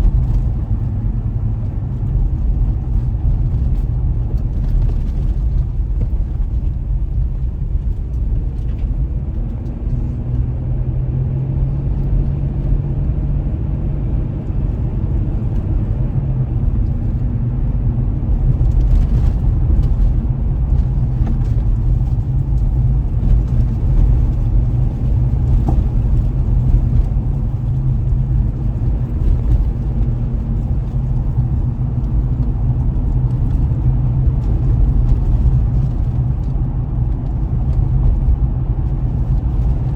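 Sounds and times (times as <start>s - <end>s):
car engine rumble: 0.0s - 39.9s
tyres on road: 0.0s - 39.9s.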